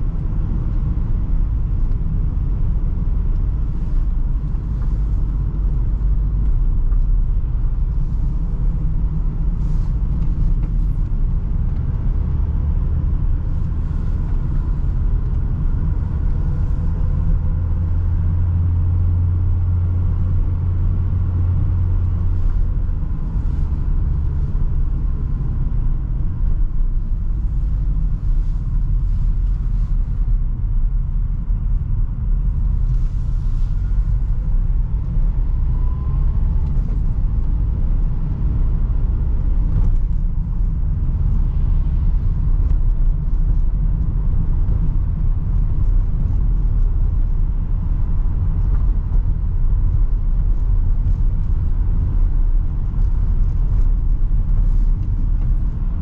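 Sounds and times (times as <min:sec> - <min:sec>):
van engine and road rumble: 0:00.0 - 0:56.0.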